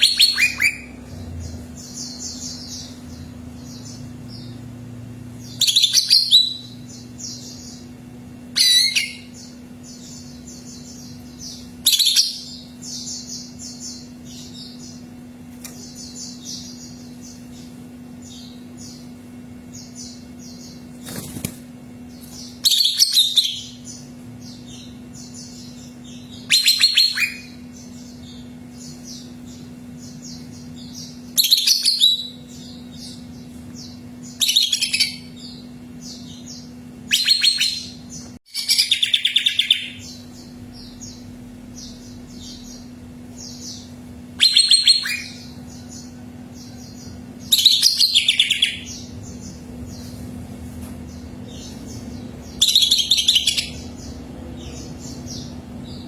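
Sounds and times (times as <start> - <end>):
bird singing rapid phrases: 0.0 - 50.3, 51.0 - 56.0
soft bird chirps: 0.0 - 56.0
steady low hum: 0.0 - 56.0.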